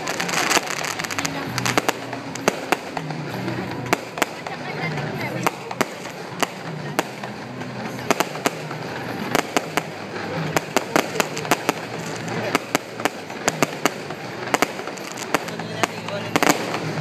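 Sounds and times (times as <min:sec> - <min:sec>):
fireworks cracking and banging: 0:00.0 - 0:17.0
murmur of voices: 0:00.0 - 0:17.0.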